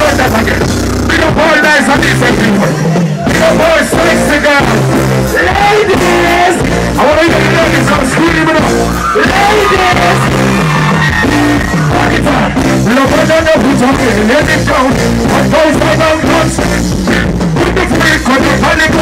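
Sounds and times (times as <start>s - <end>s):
man singing into a microphone: 0.0s - 19.0s
reggae backing music with bass: 0.0s - 19.0s.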